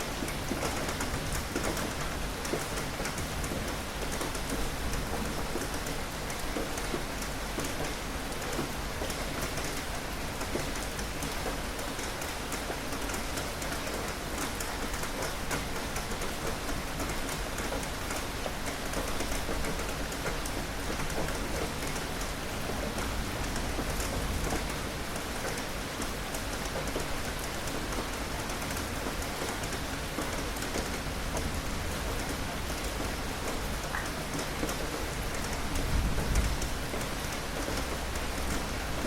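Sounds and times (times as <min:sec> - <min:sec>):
rain pattering: 0:00.0 - 0:39.0.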